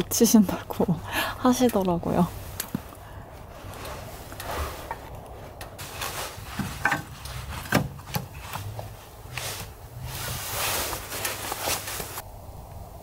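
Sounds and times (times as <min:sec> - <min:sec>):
leather gloves rustling on wood: 0:01.6 - 0:12.2.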